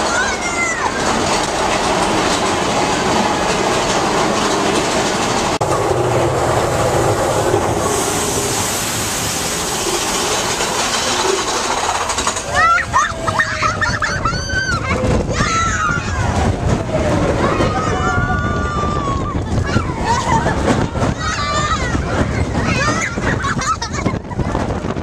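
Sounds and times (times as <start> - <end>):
roller coaster wheels rattling: 0.0 - 25.0.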